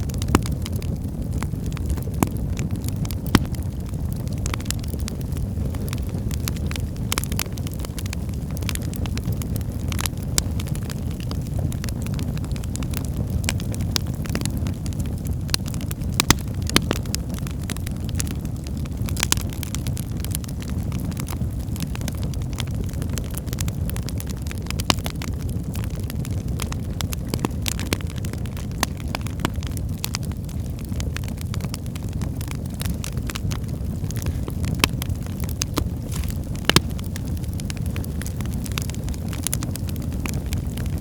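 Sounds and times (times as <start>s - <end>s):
burning wood crackling and popping: 0.0s - 41.0s
low rumble of flames: 0.0s - 41.0s.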